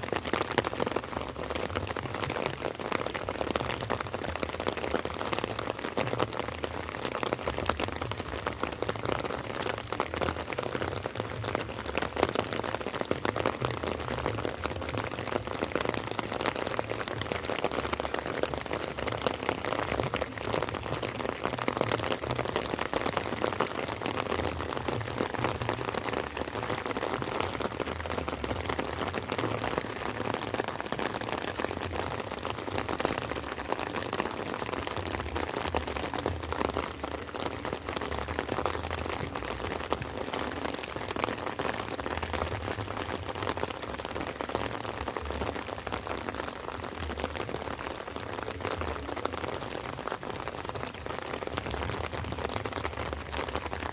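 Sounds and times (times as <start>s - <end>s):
light rain patter: 0.0s - 53.9s.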